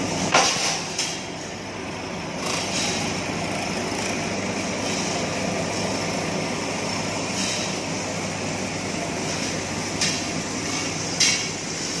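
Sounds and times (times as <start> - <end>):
wire cutting machine running: 1.0 - 11.1.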